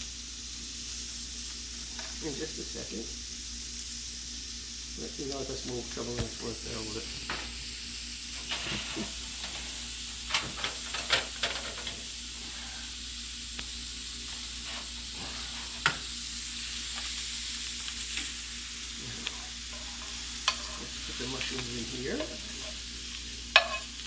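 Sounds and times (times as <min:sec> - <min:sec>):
frying pan sizzling: 0:00.0 - 0:24.0.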